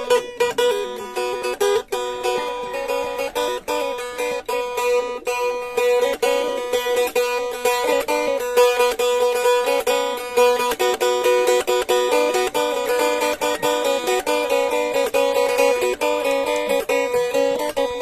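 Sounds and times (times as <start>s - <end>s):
plucked lute melody: 0.0s - 18.0s.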